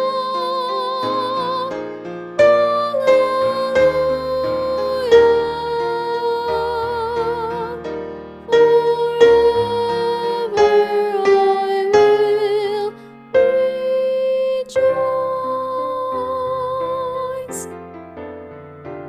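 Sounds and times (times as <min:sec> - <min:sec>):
slow hymn melody with vibrato: 0:00.0 - 0:18.6.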